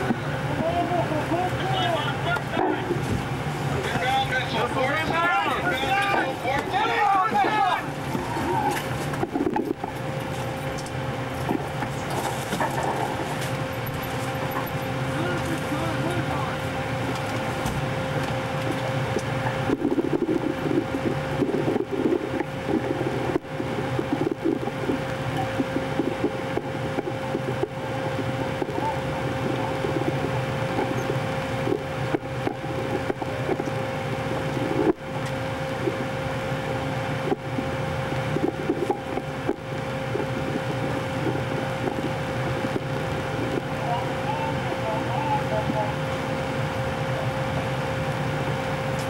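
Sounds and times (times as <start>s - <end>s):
equipment hum: 0.0s - 49.0s.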